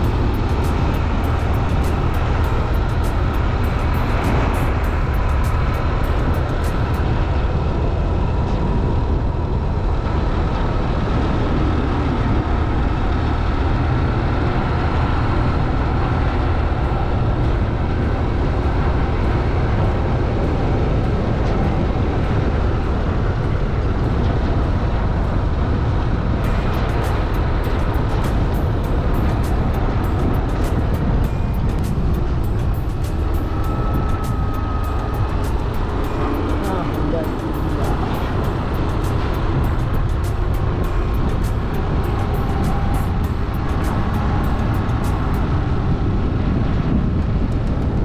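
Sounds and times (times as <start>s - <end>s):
road vehicle rumble: 0.0s - 48.0s.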